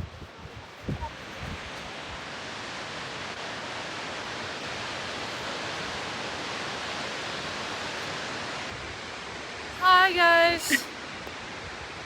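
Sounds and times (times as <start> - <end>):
waterfall rushing: 1.8 - 12.0.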